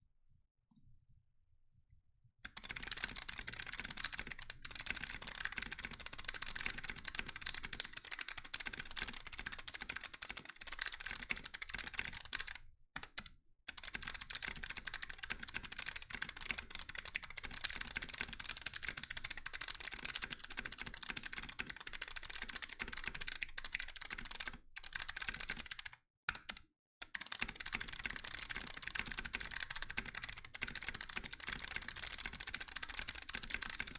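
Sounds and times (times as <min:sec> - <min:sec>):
fast typing on clicky keyboard: 0:02.5 - 0:33.9.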